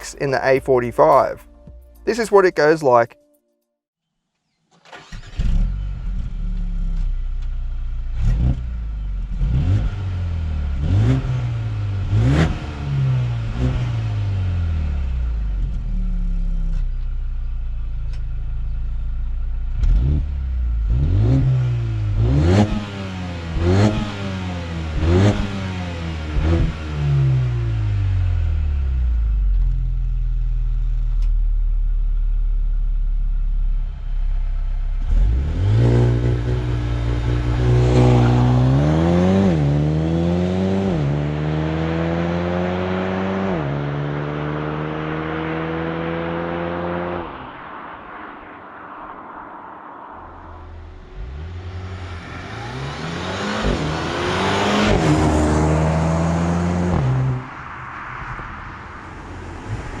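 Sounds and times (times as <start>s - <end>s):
car engine accelerating with upshifts: 4.9s - 32.3s, 34.4s - 49.4s, 50.0s - 60.0s.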